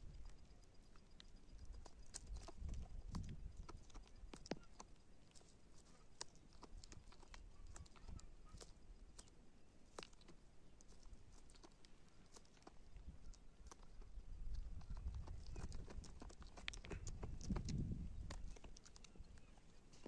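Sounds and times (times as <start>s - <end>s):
goat biting plants: 1.6s - 20.0s.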